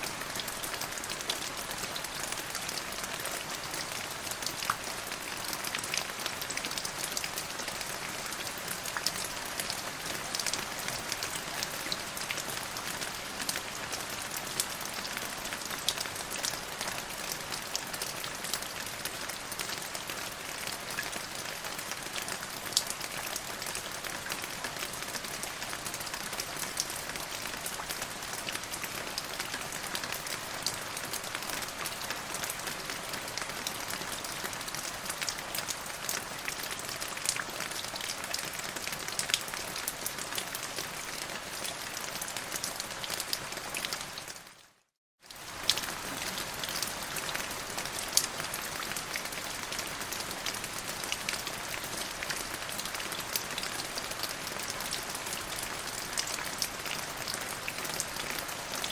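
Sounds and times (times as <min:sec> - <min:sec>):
rain pattering: 0:00.0 - 0:44.6, 0:45.2 - 0:58.9.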